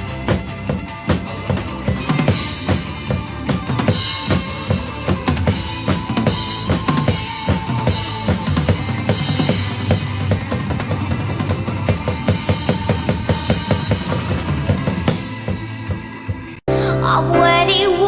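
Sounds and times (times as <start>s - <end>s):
drum kit beat: 0.0s - 16.6s
instrumental backing accompaniment: 0.0s - 18.0s.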